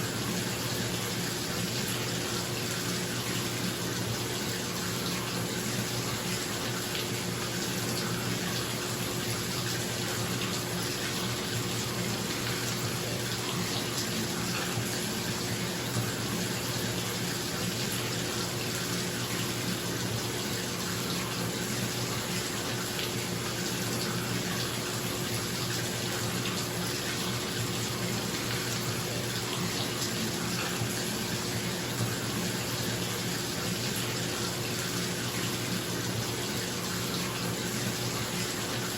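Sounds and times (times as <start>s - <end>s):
tap water splashing into bathtub: 4.4s - 38.9s.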